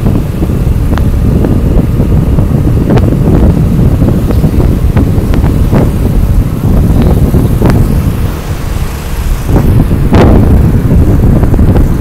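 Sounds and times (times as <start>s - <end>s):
road noise: 0.0s - 12.0s
scooter engine: 0.0s - 12.0s
wind gusts thumping microphone: 0.0s - 12.0s
wind rumble on microphone: 0.0s - 12.0s.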